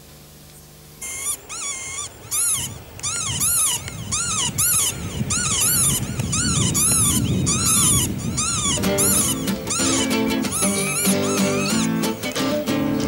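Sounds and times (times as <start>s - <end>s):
short animal calls: 1.0s - 12.2s.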